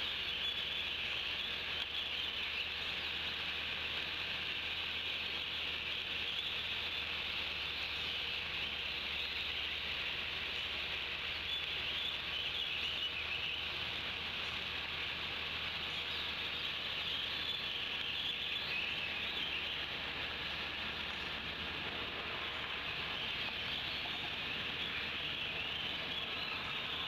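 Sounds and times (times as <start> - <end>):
faint bird chirps: 0.0 - 27.0
rain on foliage: 0.0 - 27.0.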